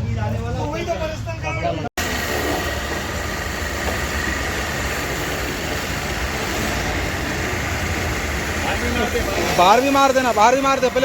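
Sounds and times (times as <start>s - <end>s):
pressure washer motor rumble: 2.0s - 11.0s
water jet hissing: 2.0s - 11.0s.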